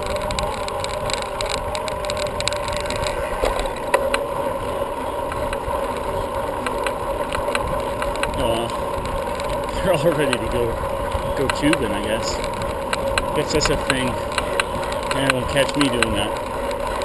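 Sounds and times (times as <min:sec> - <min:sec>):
bicycle tyres rumbling: 0:00.0 - 0:17.0
wind: 0:00.0 - 0:17.0.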